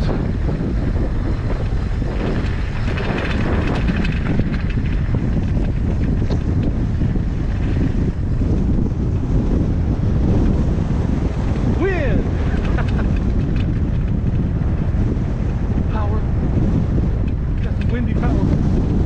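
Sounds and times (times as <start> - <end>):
wind buffeting microphone: 0.0 - 19.0
faint rattling ticks from bike: 0.4 - 11.7, 12.4 - 18.9.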